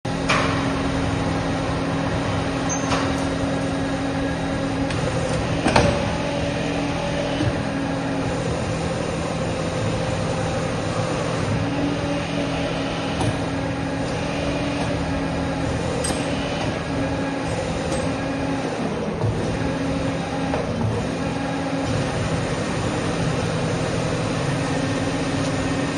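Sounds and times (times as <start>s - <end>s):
machine mechanical hum: 0.0s - 25.9s.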